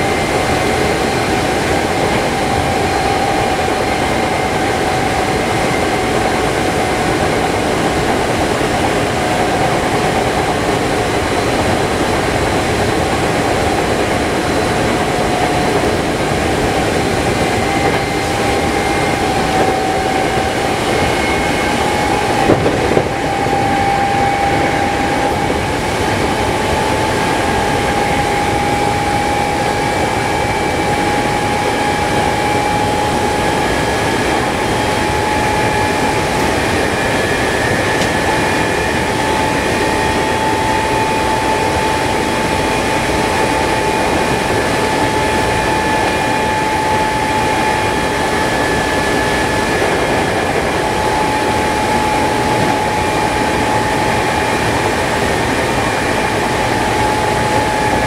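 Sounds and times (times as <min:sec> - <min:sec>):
train motor whine rising: 0:00.0 - 0:58.0
train wheels rumbling on rail: 0:00.0 - 0:58.0.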